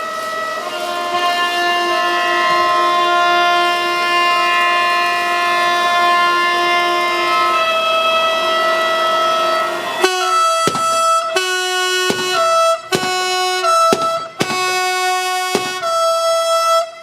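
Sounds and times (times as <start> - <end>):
locomotive horn blast: 0.0 - 17.0.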